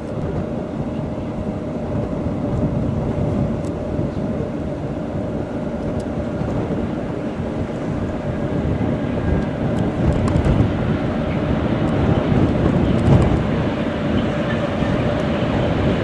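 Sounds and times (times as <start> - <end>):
boat engine drone: 0.0 - 16.0
train wheels rumbling on rails: 0.0 - 16.0.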